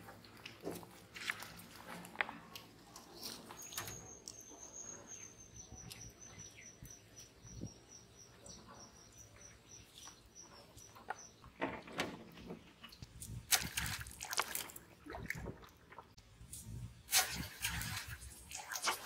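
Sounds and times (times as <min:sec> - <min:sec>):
faint outdoor ambience: 0:00.0 - 0:19.0.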